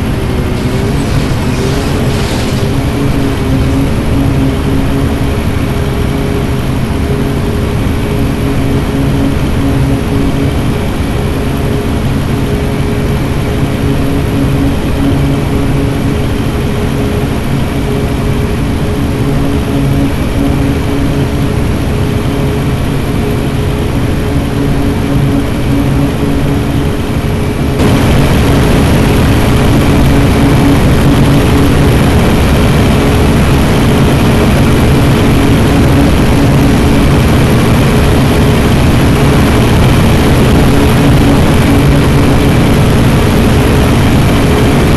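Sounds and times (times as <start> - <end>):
bus engine running: 0.0 - 44.9.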